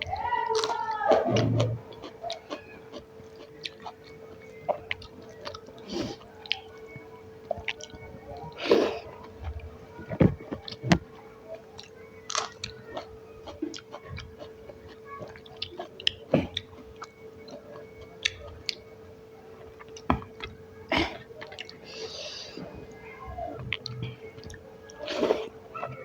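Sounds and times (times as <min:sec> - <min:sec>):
close chewing and mouth clicks: 0:00.0 - 0:22.0, 0:23.6 - 0:26.0
faint steady hum: 0:00.0 - 0:26.0.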